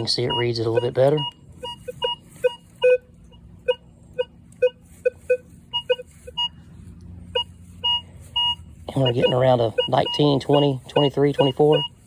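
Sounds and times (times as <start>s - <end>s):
metal detector beeps: 0.0s - 6.6s, 7.3s - 12.0s.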